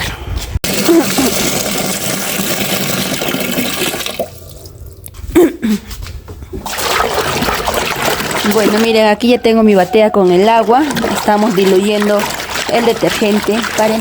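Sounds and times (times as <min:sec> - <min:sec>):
water running into a tub: 0:00.6 - 0:05.2, 0:06.6 - 0:14.0.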